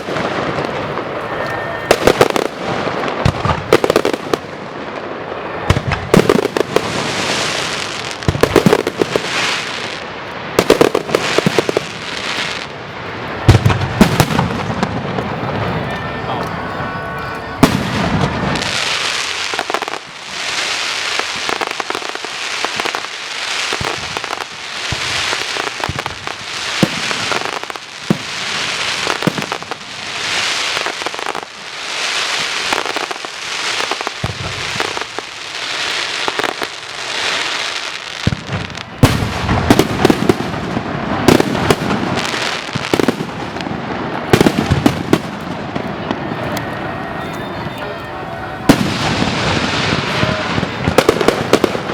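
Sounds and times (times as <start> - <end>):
firecrackers crackling: 0.0 - 51.9
sharp firecracker bangs: 0.0 - 51.9.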